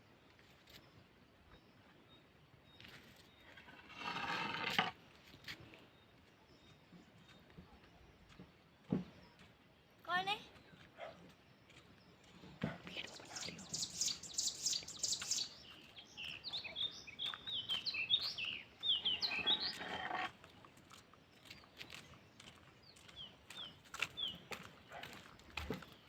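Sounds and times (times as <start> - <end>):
small birds chirping: 0.2 - 26.0.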